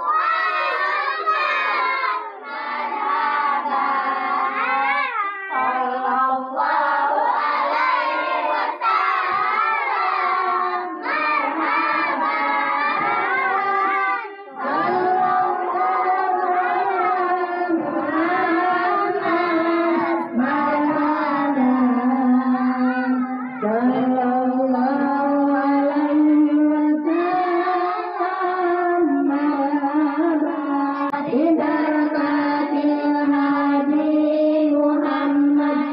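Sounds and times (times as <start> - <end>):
children singing in unison: 0.0 - 35.9.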